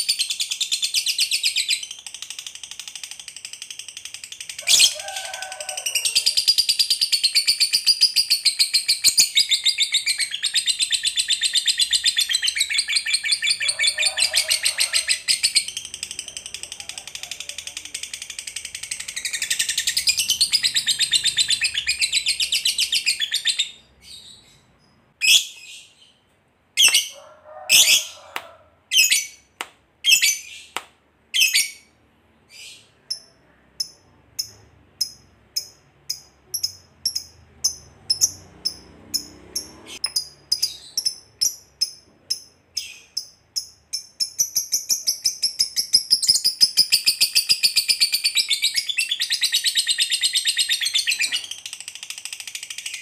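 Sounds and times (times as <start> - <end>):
lovebird chattering and calling: 0.0 - 26.1, 26.8 - 31.9, 32.5 - 53.0.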